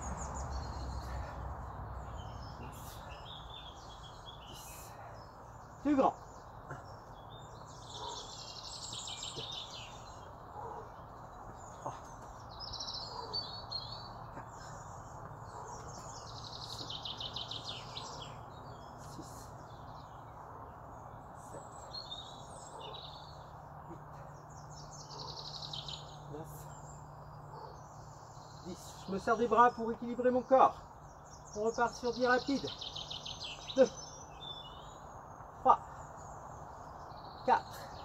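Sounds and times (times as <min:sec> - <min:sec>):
small birds trilling: 0:00.0 - 0:38.0.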